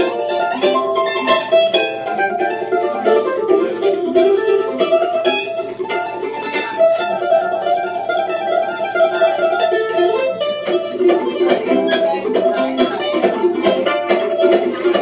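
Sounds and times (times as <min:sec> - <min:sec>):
mandolin picked notes: 0:00.0 - 0:15.0.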